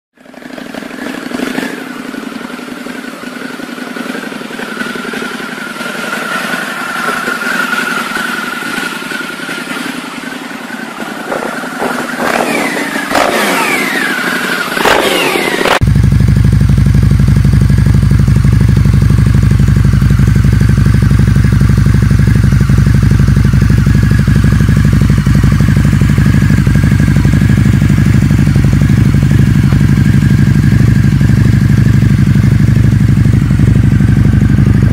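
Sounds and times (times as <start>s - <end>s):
deep steady motorcycle rumble: 0.1s - 34.9s
motorcycle engine revving: 0.2s - 34.9s.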